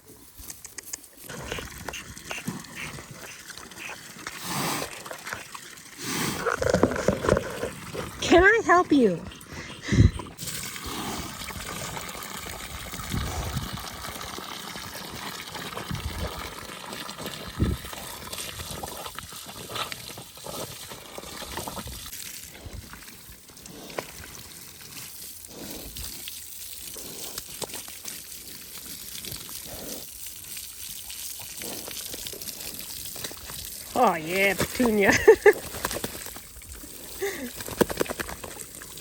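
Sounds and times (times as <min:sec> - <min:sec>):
water pouring and trickling: 0:00.3 - 0:39.0.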